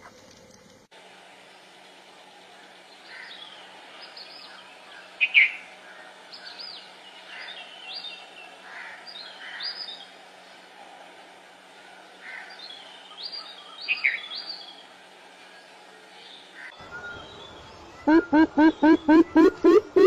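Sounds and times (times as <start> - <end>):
birds chirping: 2.6 - 20.0.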